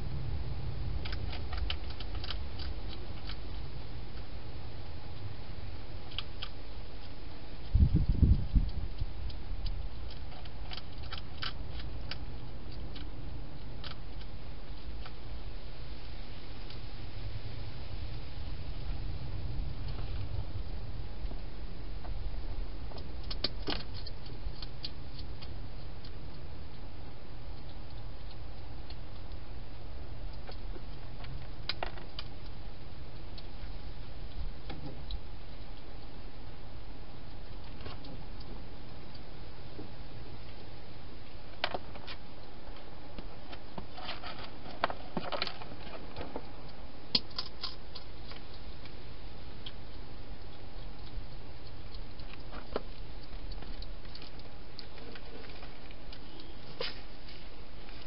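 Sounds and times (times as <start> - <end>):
low hum: 0.0 - 58.0
steady low hiss: 0.0 - 58.0
hedgehog crunching food: 0.6 - 15.5, 19.6 - 58.0.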